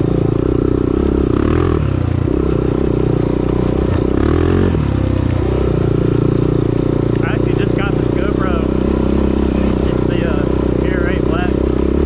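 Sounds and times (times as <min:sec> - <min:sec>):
atv engine running under load: 0:00.0 - 0:12.0.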